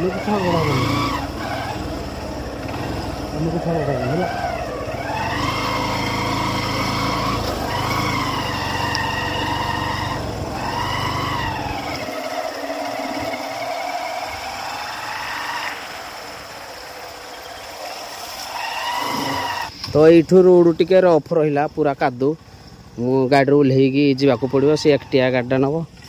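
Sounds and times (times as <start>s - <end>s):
motorcycle engine revving: 0.0s - 19.8s, 22.4s - 26.0s.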